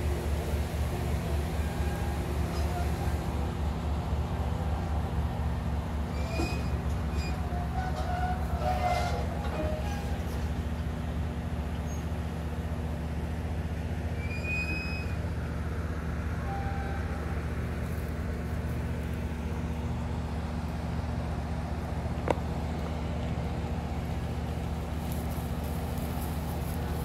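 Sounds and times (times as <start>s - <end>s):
standing train humming: 0.0s - 27.0s.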